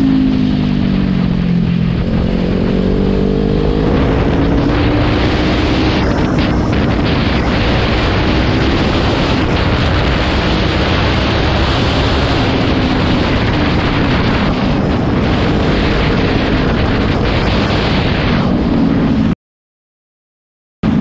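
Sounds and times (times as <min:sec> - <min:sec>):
motorcycle engine running: 0:00.0 - 0:19.2
wind rush on microphone: 0:00.0 - 0:19.4.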